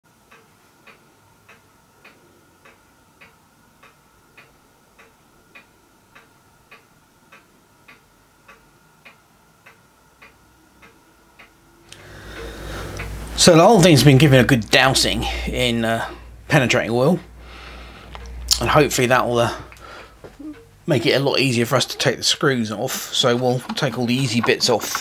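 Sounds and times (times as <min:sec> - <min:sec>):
clock ticking: 0:00.1 - 0:25.0.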